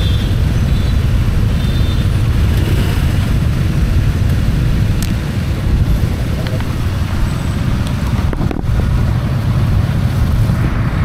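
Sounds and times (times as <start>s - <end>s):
slow traffic rumble: 0.0s - 11.0s.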